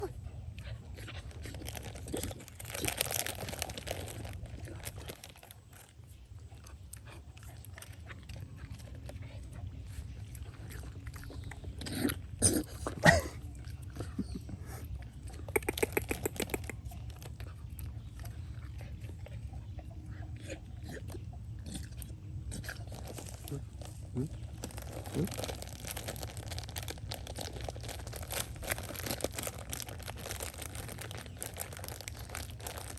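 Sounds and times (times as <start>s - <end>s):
dog chewing and crunching food: 0.0s - 32.9s.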